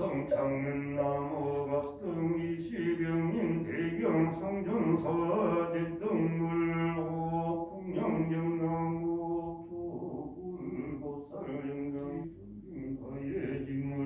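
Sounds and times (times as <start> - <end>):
voice chanting long held notes: 0.0 - 14.0.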